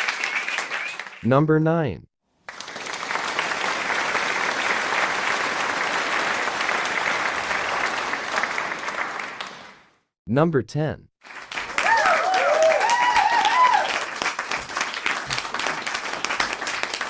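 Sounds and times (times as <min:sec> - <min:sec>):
crowd applauding: 0:00.0 - 0:01.2, 0:02.4 - 0:09.9, 0:11.2 - 0:17.0.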